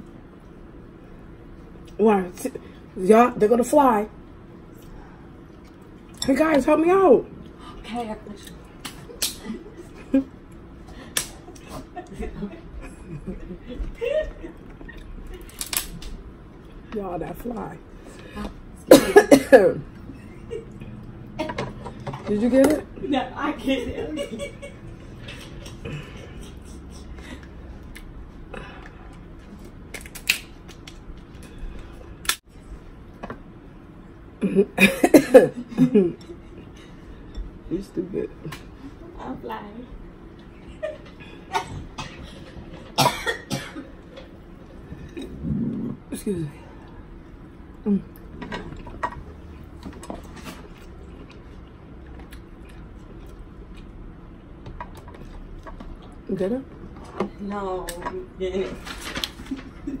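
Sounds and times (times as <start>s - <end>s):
low steady hum: 0.0s - 60.0s.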